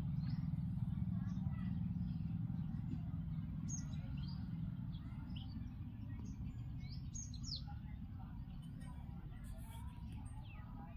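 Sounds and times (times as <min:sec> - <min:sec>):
small birds chirping: 0:00.0 - 0:10.9
steady low rumble: 0:00.0 - 0:10.9.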